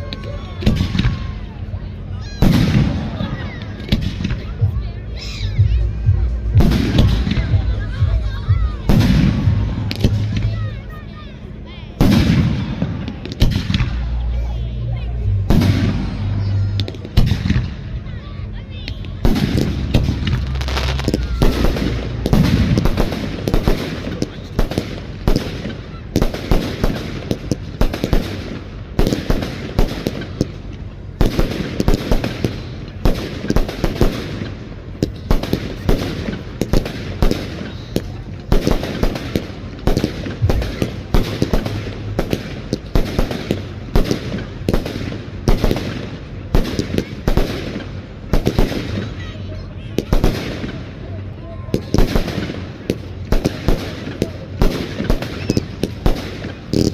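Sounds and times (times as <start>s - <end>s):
fireworks bangs: 2.2s - 11.0s, 11.9s - 14.6s, 15.2s - 18.1s, 18.7s - 56.9s.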